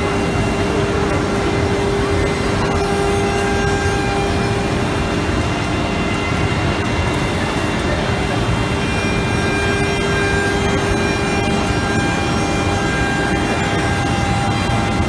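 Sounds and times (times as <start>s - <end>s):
cnc router machining wood: 0.0s - 15.0s
constant machine tone: 0.0s - 15.0s.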